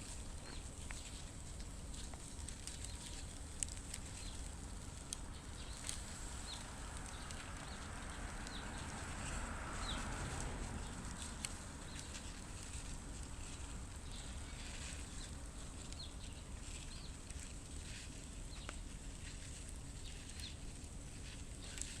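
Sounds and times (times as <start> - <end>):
sharp crackles: 0.0 - 22.0.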